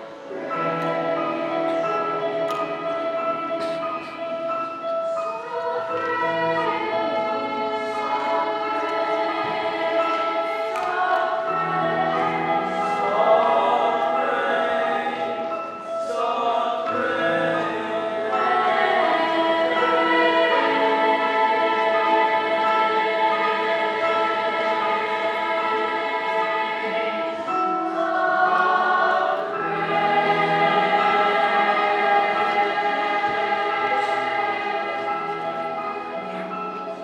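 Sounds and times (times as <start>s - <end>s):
choir singing: 0.0s - 37.0s
piano accompaniment: 0.0s - 37.0s.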